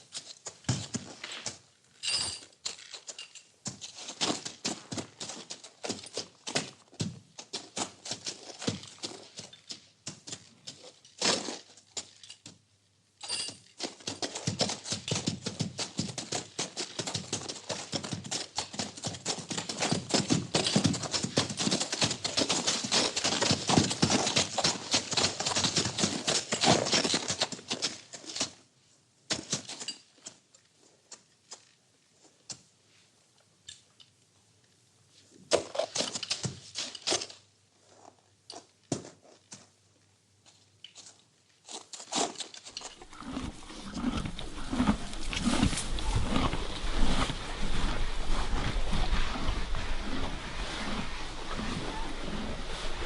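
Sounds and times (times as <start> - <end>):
hooves clopping and shuffling: 0.0 - 53.0.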